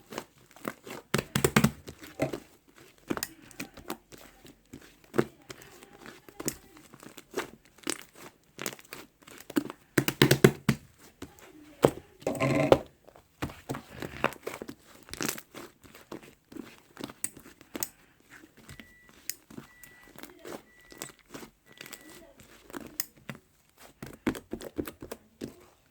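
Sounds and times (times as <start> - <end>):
crinkling and rustling: 0.0 - 25.9.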